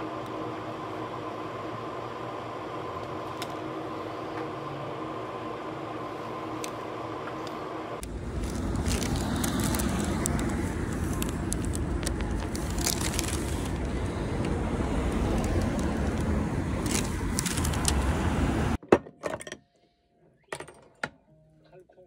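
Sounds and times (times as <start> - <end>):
vehicle road noise rumbling: 0.0 - 18.8.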